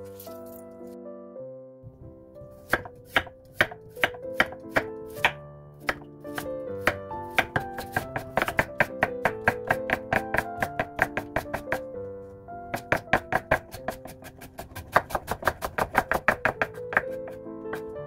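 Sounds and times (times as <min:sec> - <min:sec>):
background music: 0:00.0 - 0:18.0
knife chopping on wooden board: 0:02.4 - 0:11.9, 0:12.7 - 0:18.0.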